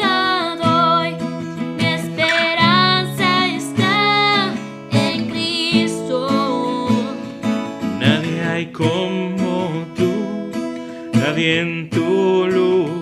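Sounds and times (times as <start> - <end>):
person singing: 0.0 - 7.3, 8.0 - 13.0
strummed acoustic guitar: 0.0 - 13.0.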